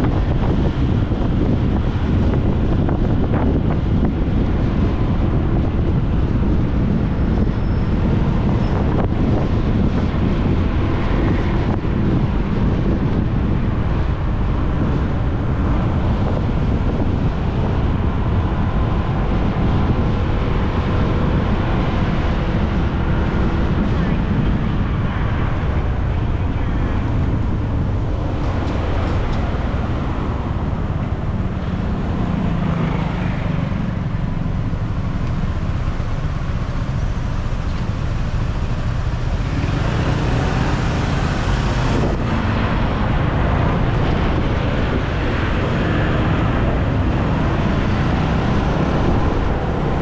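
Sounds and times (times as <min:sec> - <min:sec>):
car traffic: 0:00.0 - 0:50.0
wind rushing over microphone: 0:00.0 - 0:50.0.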